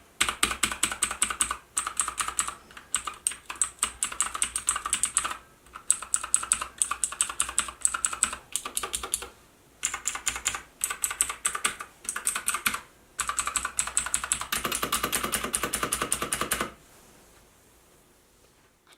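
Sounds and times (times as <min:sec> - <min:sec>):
keyboard typing: 0:00.2 - 0:16.8.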